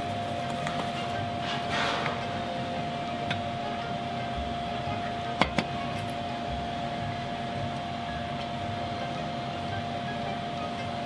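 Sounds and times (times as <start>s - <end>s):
appliance electrical hum: 0.0s - 11.0s.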